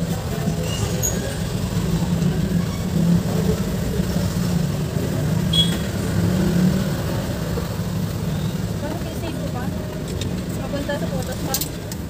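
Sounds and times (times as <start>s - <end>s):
vehicle engine drone: 0.0s - 11.3s.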